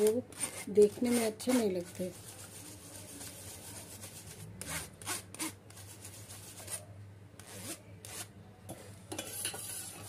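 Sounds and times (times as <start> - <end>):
yogurt scraping through strainer: 0.0 - 8.3.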